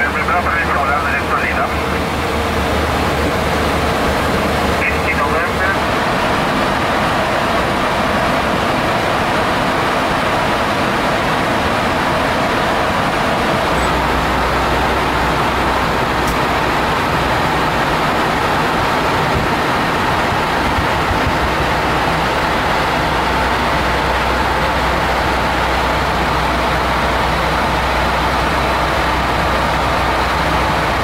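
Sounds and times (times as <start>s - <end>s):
aircraft cockpit rushing noise: 0.0s - 31.0s
deep rumble: 0.0s - 31.0s.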